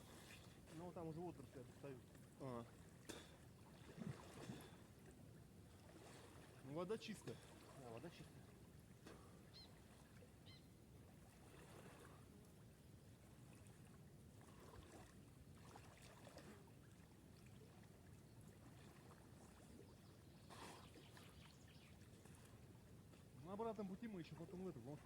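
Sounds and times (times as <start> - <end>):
water sloshing from swimming: 0.0 - 25.0.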